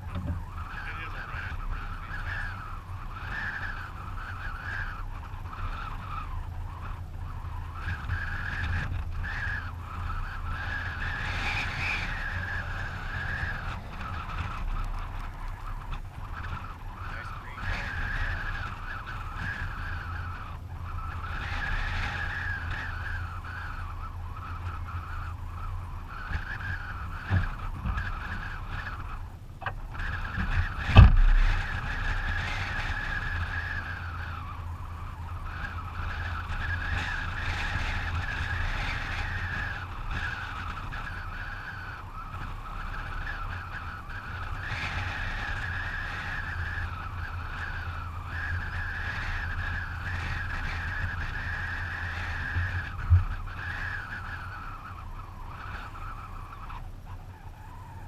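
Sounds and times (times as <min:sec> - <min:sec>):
car road and tyre noise: 0:00.0 - 0:58.0.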